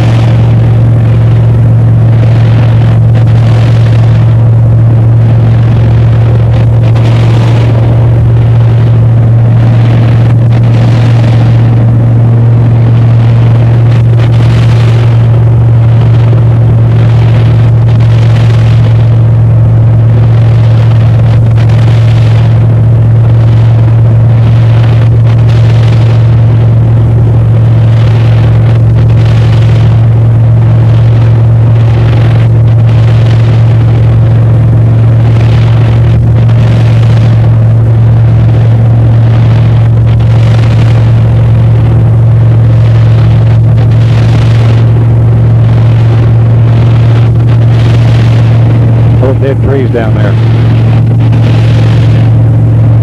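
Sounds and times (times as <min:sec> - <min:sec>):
airplane engine drone in cabin: 0:00.0 - 0:53.0.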